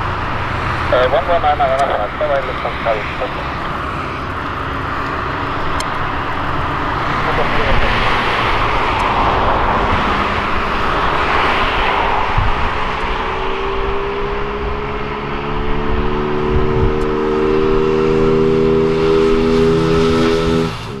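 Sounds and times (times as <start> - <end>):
jet engines roaring: 0.0 - 21.0
steady droning tones: 0.0 - 21.0.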